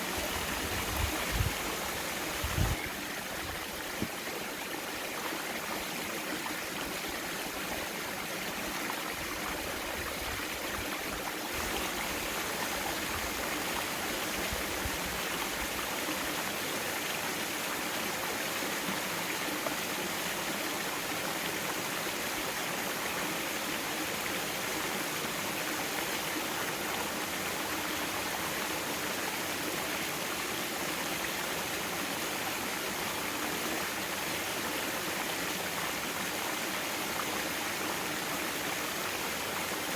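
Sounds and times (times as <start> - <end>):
stream water rushing and burbling: 0.0 - 39.9.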